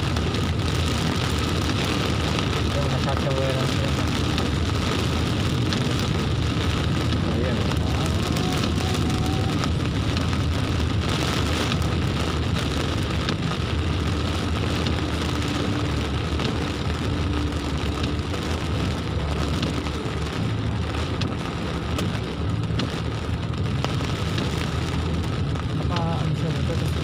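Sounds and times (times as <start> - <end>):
engine and tyres on wet road: 0.0 - 27.0
rain pattering on car roof: 0.0 - 27.0.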